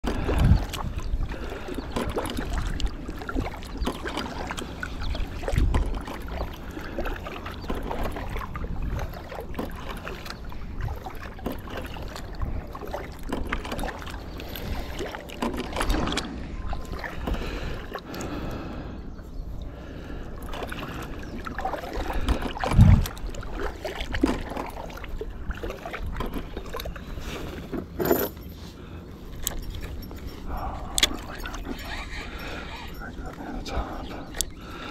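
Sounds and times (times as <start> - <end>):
paddle splashing in water: 0.0 - 18.6, 19.7 - 34.9.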